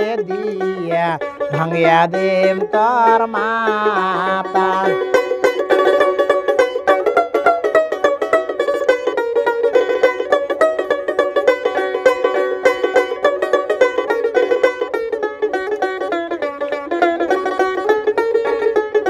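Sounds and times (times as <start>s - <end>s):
plucked lute notes: 0.0s - 19.0s.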